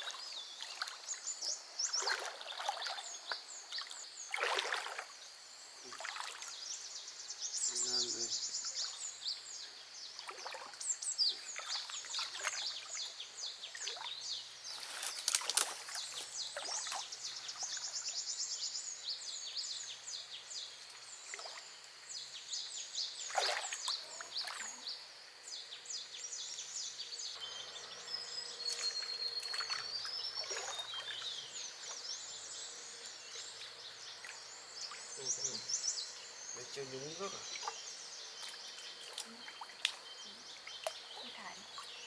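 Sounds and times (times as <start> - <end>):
birds chirping rapidly: 5.8 - 20.3, 22.2 - 42.0.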